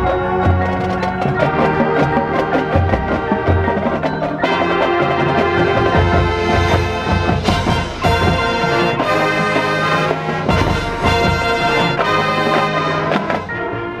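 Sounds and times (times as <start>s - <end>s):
marching band percussion strokes: 0.0s - 14.0s
wind and brass chords: 0.0s - 14.0s.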